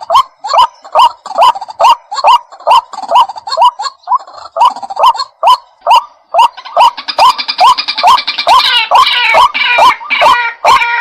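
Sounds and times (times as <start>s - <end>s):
waterhen calling: 0.0s - 11.0s.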